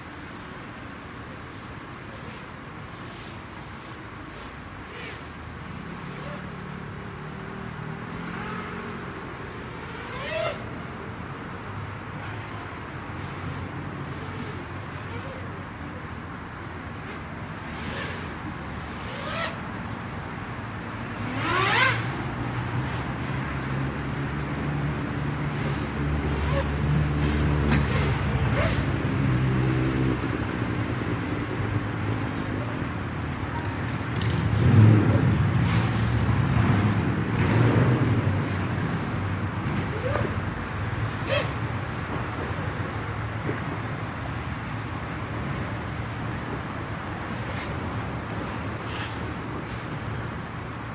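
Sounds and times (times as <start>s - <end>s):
outdoor background noise: 0.0s - 50.9s.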